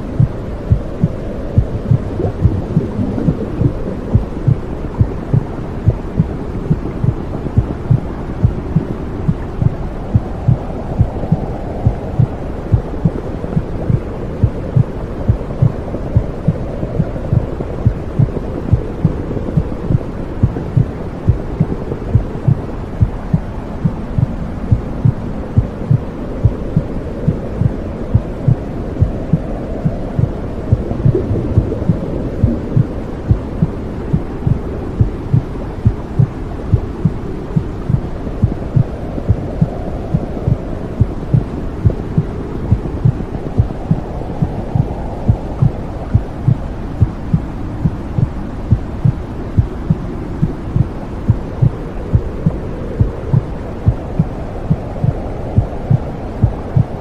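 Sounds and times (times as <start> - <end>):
muffled whooshing rumble: 0.0 - 57.0
heartbeat thumping: 0.1 - 16.6, 17.3 - 57.0.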